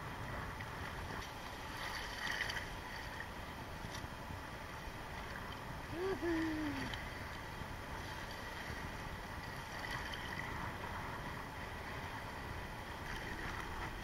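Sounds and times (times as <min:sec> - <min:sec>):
choppy water washing around boat: 0:00.0 - 0:14.0
faint steady hum: 0:00.0 - 0:14.0
wind: 0:00.0 - 0:14.0.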